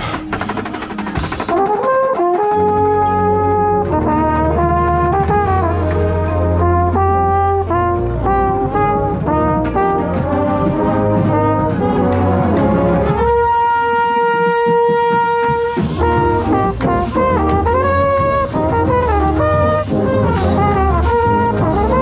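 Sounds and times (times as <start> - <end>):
brass line playing: 0.0 - 22.0
mellophone: 0.0 - 22.0.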